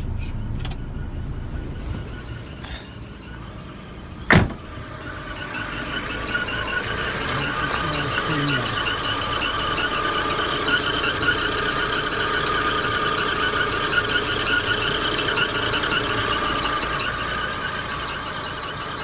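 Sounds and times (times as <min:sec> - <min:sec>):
car engine running under load: 0:00.0 - 0:19.0
high-pitched belt whistle: 0:00.0 - 0:19.0.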